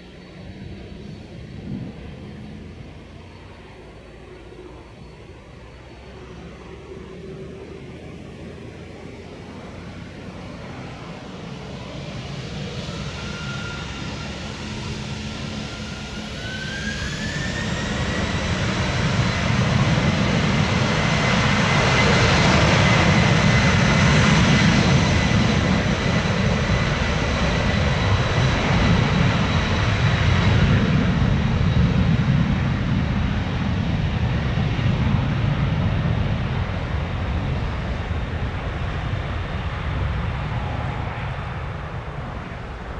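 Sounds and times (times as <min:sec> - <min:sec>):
jet engines spooling up: 0:05.7 - 0:42.9.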